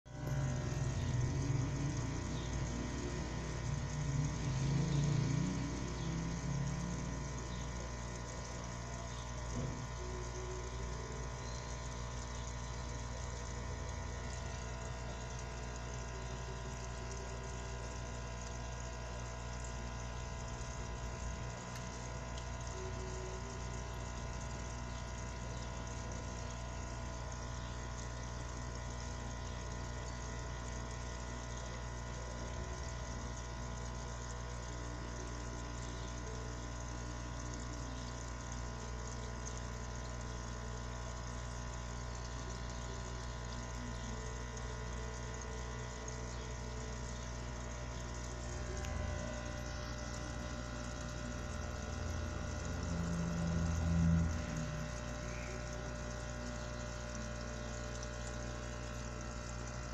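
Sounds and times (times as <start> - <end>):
aquarium pump humming: 0.1 - 59.9
water trickling: 0.1 - 59.9.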